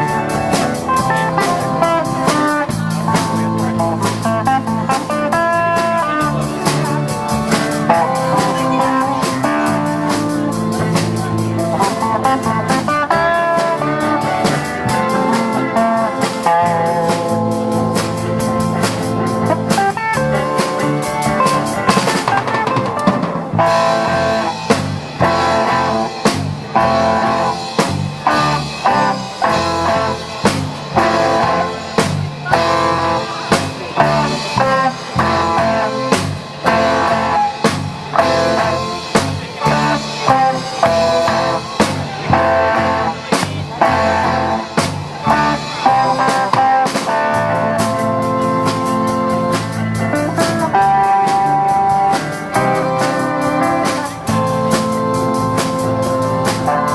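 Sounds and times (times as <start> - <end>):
drum kit beat: 0.0 - 56.9
electric guitar chords: 0.0 - 56.9.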